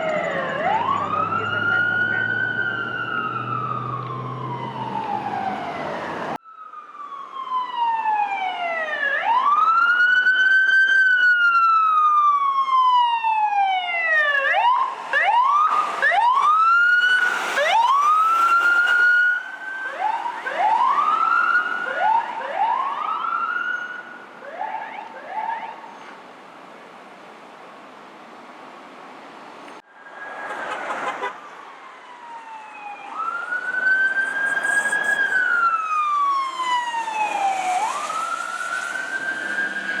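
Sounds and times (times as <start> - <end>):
emergency vehicle siren wailing: 0.0 - 26.1, 29.8 - 40.0.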